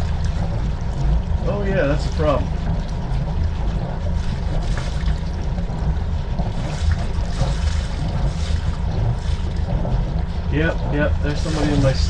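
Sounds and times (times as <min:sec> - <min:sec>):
boat engine idling: 0:00.0 - 0:12.0
water along boat hull: 0:00.0 - 0:12.0.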